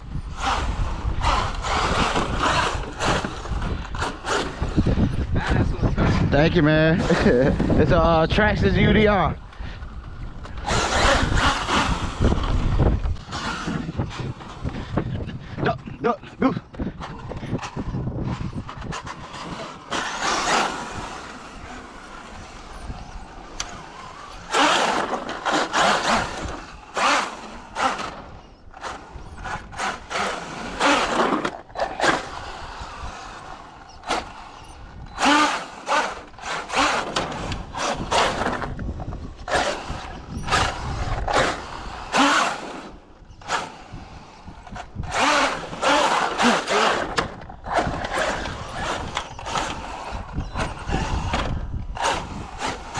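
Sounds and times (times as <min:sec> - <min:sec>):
electric motor whining: 0:00.0 - 0:05.4, 0:06.2 - 0:15.4, 0:16.7 - 0:52.9
tyres rattling over wooden planks: 0:00.3 - 0:52.9.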